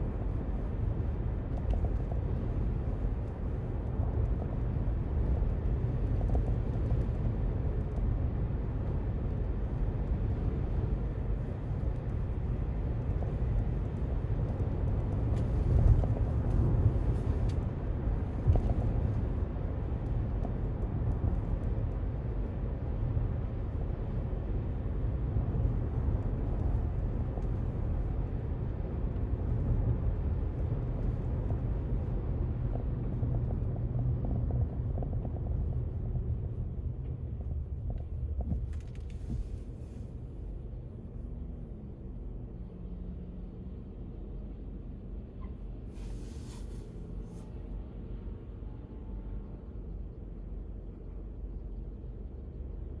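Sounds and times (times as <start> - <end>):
road traffic rumble: 7.6 - 53.0.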